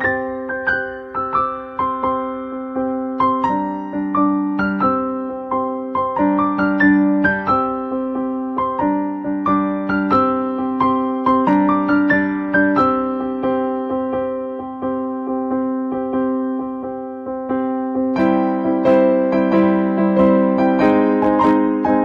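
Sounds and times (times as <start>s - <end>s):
keyboard piano melody: 0.0s - 22.0s.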